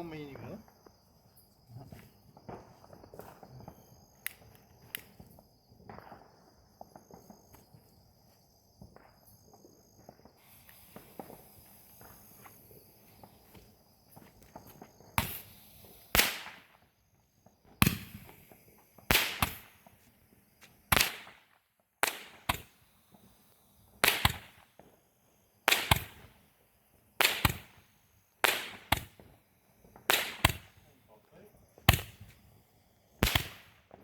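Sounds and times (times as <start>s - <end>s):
firework firing sharp pops: 1.9s - 34.0s.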